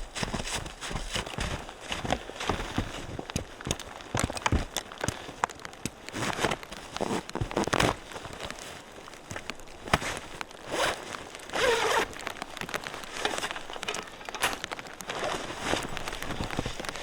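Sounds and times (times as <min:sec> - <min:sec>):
rustling and crinkling handling: 0:00.0 - 0:17.0.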